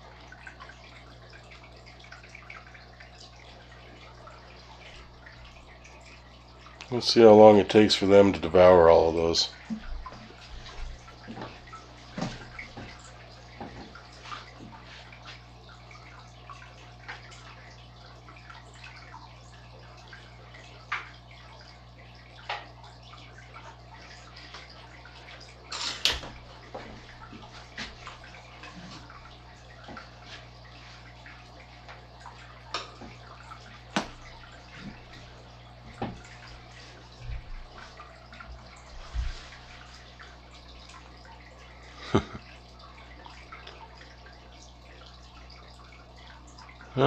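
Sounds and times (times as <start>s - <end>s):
aquarium water trickling: 0.0s - 47.0s
small water splashes: 0.0s - 47.0s.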